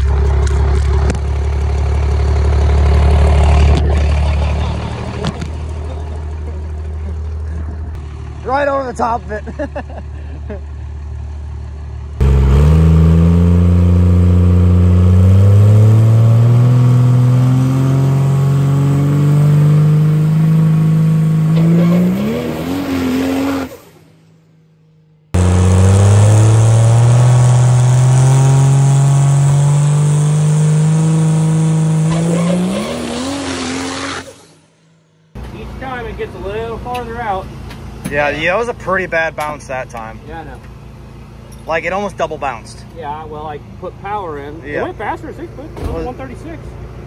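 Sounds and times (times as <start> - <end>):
diesel truck engine at full power: 0.0 - 47.0.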